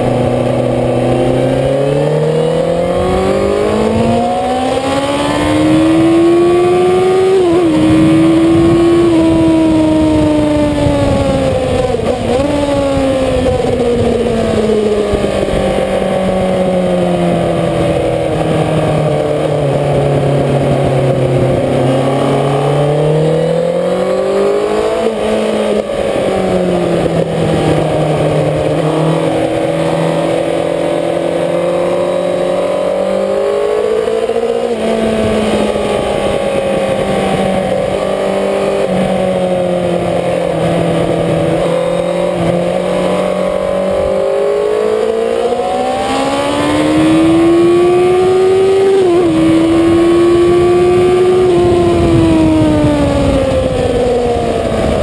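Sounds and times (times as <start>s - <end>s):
wind noise rushing: 0.0s - 32.0s, 33.0s - 55.0s
motorcycle engine at speed: 0.0s - 55.0s.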